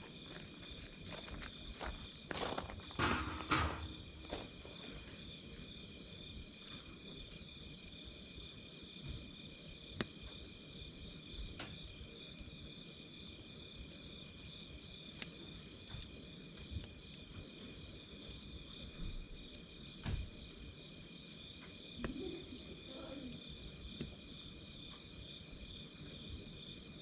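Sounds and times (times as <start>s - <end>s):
campfire crackling: 0.0s - 27.0s
crickets chirring: 0.0s - 27.0s.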